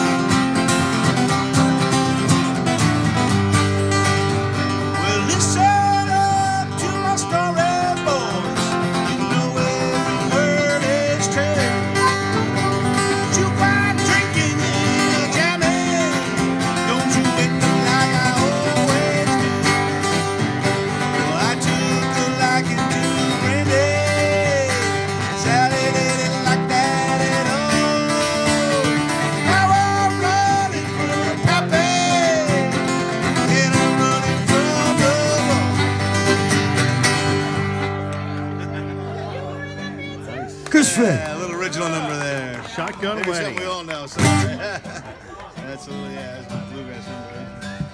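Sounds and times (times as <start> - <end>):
acoustic guitars strumming: 0.0 - 47.9.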